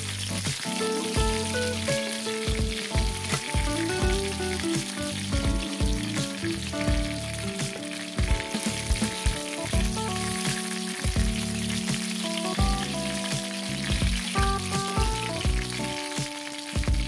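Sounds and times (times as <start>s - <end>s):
background music with held notes: 0.0s - 17.0s
hot oil sizzling: 0.0s - 17.0s.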